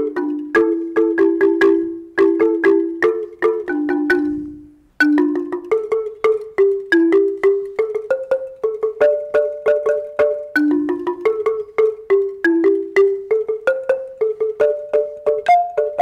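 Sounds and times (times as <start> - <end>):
marimba playing: 0.0 - 16.0.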